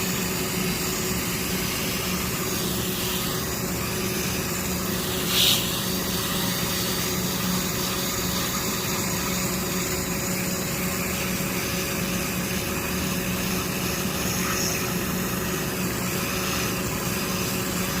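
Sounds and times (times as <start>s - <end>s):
machine hum with hiss: 0.0s - 18.0s.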